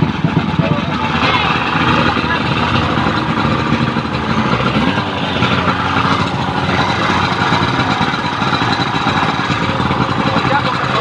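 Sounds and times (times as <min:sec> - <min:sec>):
pump engine running: 0:00.0 - 0:11.0.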